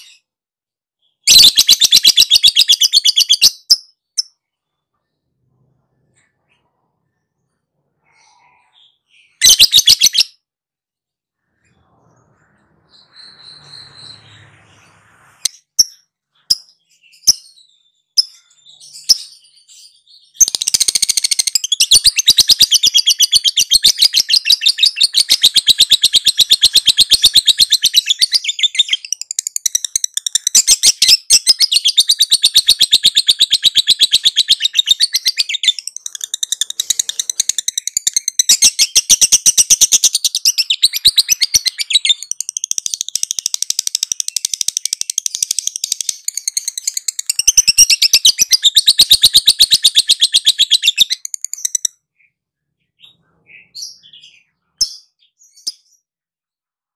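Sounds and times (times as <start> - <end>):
bird chirps: 0.0 - 0.4, 1.0 - 10.5, 11.4 - 56.2.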